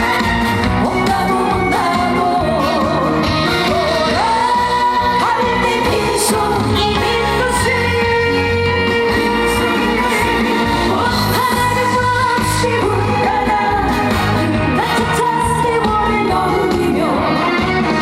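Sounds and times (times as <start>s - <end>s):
backing band with steady beat: 0.0s - 18.0s
person singing: 0.0s - 18.0s.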